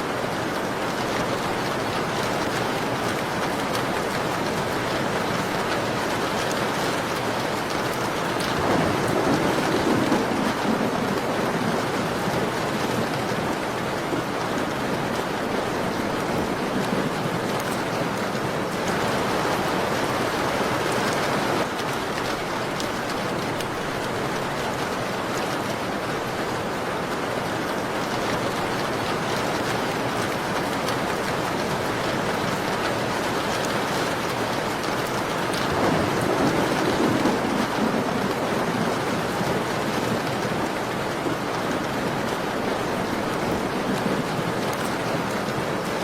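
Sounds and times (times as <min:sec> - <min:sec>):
rain against a window: 0:00.0 - 0:46.0.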